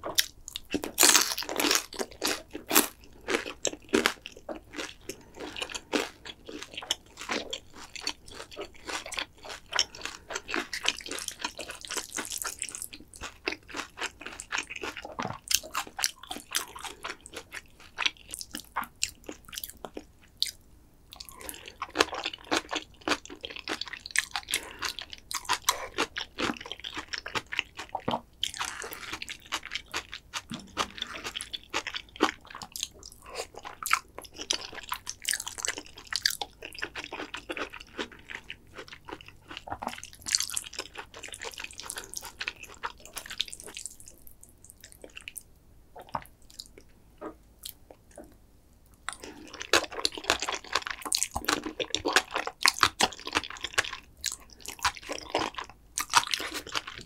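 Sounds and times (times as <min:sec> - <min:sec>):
close chewing noodles: 0:00.0 - 0:48.3, 0:49.0 - 0:57.0.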